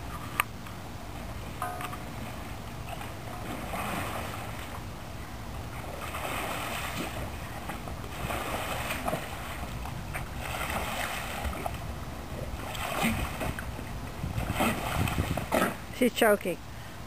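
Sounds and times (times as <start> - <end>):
pool water splashing: 0.0 - 16.4.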